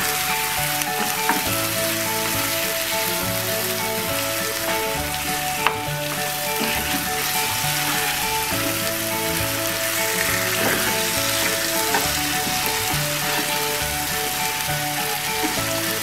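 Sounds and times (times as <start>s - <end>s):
chicken sizzling in a pan: 0.0s - 16.0s
soft background music: 0.0s - 16.0s.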